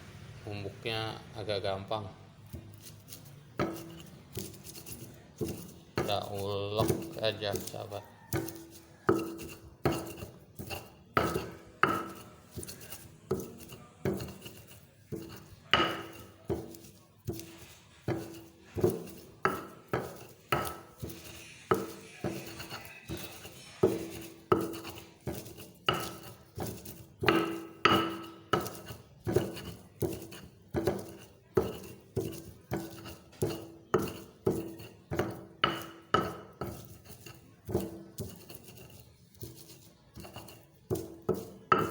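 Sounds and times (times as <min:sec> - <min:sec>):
pestle pounding in a mortar: 0:02.4 - 0:41.9.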